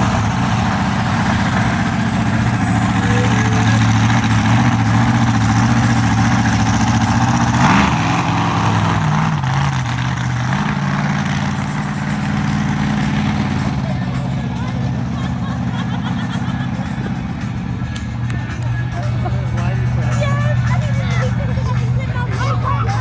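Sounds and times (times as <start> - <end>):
truck engine idling and revving: 0.0 - 23.0.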